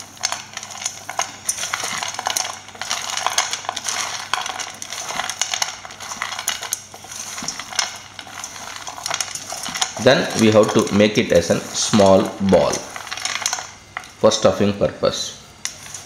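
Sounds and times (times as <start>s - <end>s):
spoon scraping bowl: 0.0s - 14.2s, 15.6s - 16.0s.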